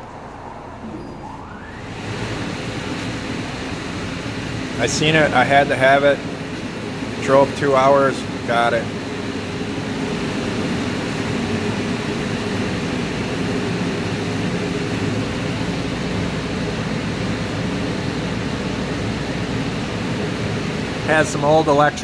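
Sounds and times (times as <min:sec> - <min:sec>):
machinery humming and rushing: 0:00.0 - 0:22.0.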